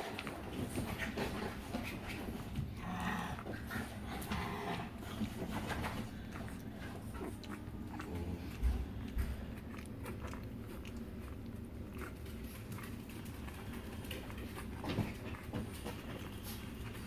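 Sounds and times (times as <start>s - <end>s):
puppies eating wet food: 0.0s - 17.0s.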